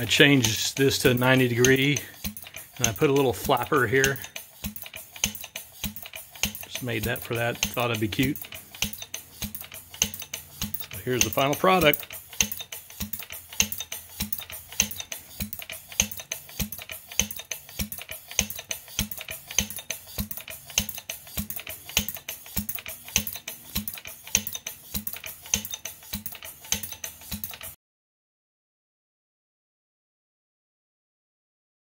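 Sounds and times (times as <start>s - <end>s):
valve clicks: 0.0s - 27.7s.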